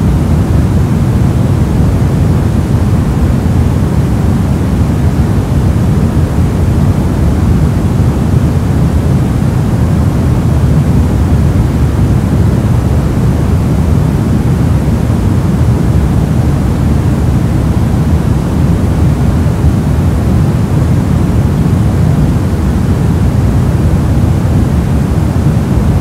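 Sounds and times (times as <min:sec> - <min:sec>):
deep steady noise: 0:00.0 - 0:26.0.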